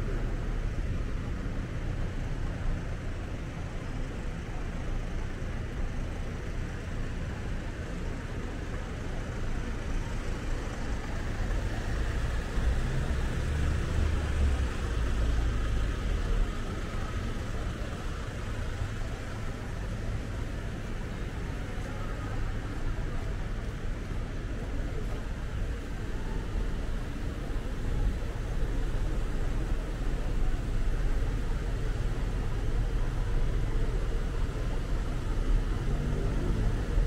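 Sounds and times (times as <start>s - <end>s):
low vehicle rumble: 0.0s - 37.0s
road traffic hum: 0.0s - 37.0s.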